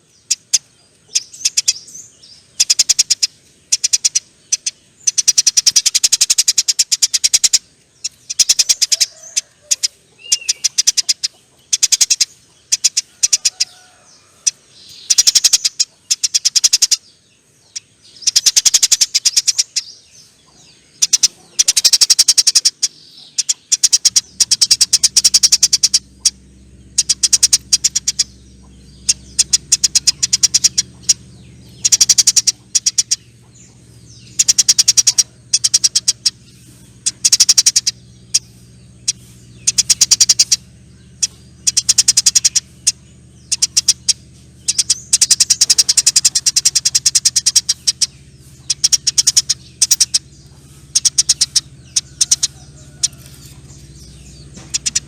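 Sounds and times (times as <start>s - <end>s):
faint low hum: 0.0s - 55.0s
sparrow chattering call: 0.0s - 55.0s.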